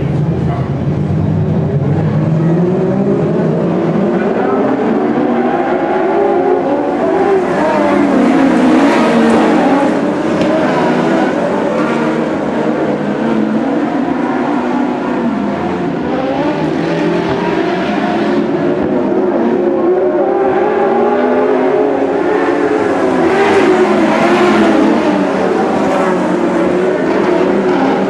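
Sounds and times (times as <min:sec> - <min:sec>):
racing car engines at high revs: 0:00.0 - 0:28.0.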